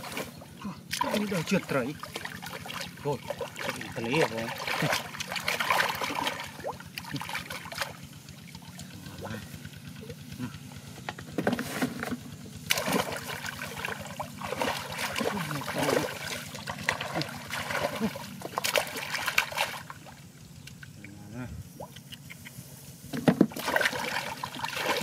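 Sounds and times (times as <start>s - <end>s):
muddy water splashing: 0.0s - 10.8s, 11.4s - 22.5s, 23.1s - 25.0s.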